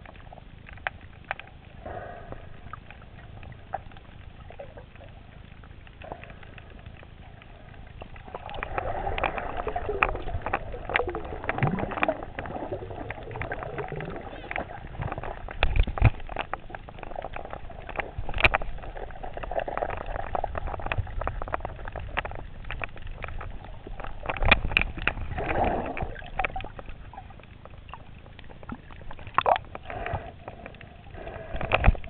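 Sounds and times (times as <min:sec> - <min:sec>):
steady low rumble: 0:00.0 - 0:32.0
water sloshing and gurgling: 0:00.0 - 0:32.0.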